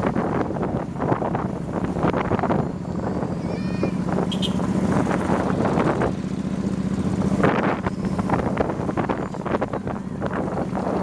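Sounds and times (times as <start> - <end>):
motorbike engine humming: 0.0 - 11.0
wind buffeting microphone: 0.0 - 11.0.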